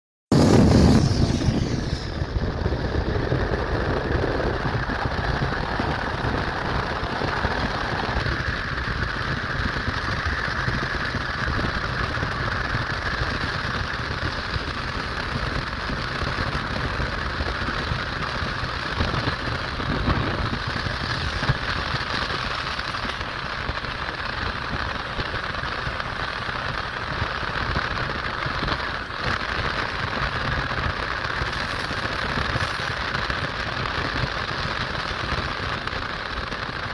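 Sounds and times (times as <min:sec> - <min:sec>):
train wheels rumbling on rail: 0:00.3 - 0:36.9.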